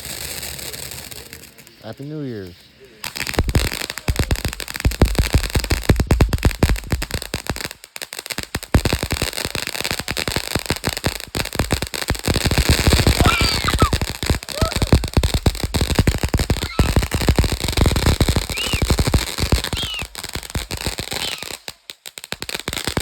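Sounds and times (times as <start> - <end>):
firecrackers banging: 0.0 - 23.0.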